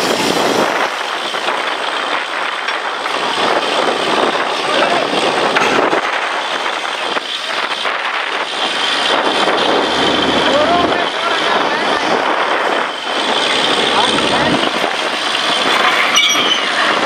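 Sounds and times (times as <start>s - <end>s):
drilling rig running: 0.0s - 17.0s.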